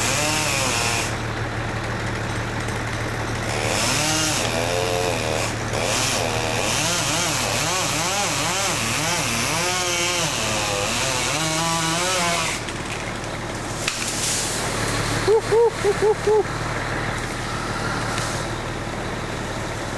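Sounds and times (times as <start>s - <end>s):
chainsaw revving: 0.0s - 13.2s, 13.9s - 18.6s.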